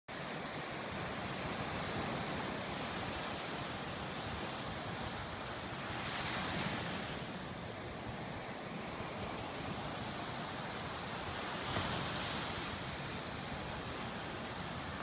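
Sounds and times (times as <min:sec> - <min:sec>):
small waves breaking on beach: 0:00.1 - 0:15.0.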